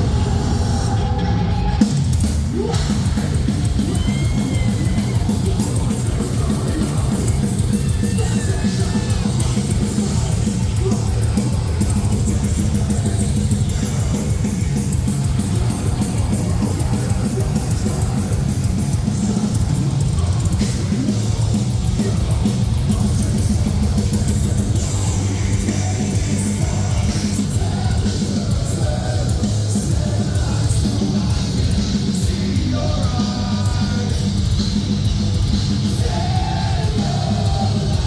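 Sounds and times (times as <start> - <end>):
metalcore band playing live: 0.0 - 38.0.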